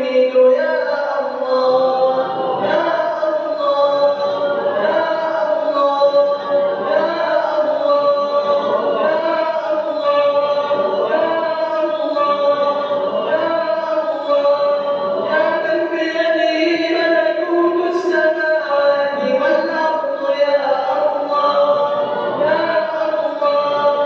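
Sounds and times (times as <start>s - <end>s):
man chanting: 0.0s - 24.0s.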